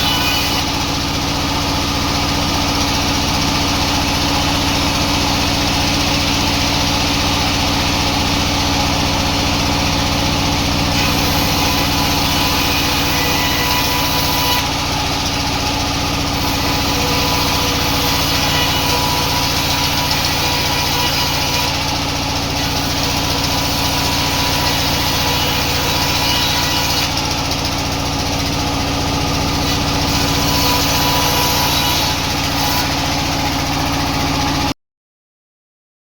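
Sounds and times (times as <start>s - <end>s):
sawmill machinery running: 0.0s - 34.8s.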